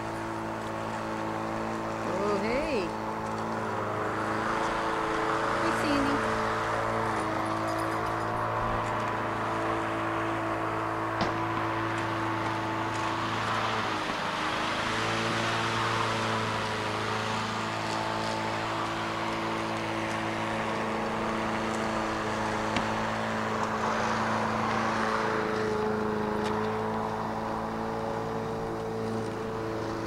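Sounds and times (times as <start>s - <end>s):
steady motor hum: 0.0s - 30.0s.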